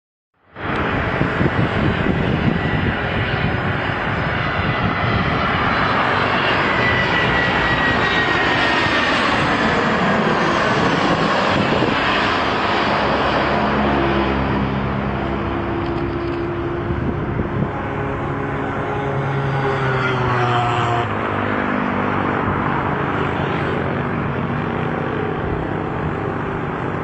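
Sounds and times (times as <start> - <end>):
airplane flying overhead: 0.4 - 27.0.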